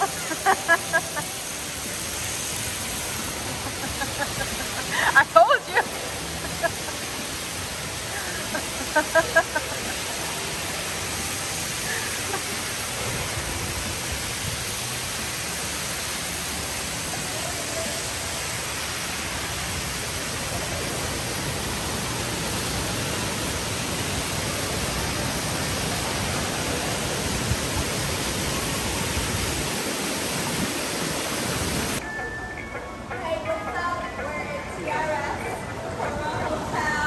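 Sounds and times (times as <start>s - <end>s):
hot tub water jets churning: 0.0s - 33.1s.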